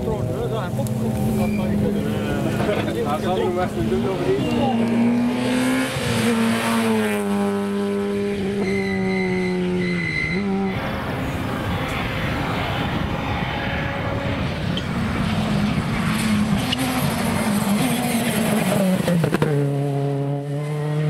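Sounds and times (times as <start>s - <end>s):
rally car approaching: 0.0s - 21.0s
rally car engine driving away: 0.0s - 21.0s.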